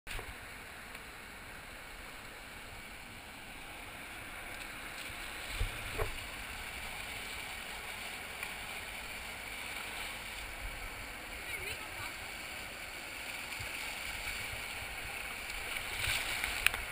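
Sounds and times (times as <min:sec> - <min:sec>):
water rushing over a weir: 0:00.1 - 0:16.9.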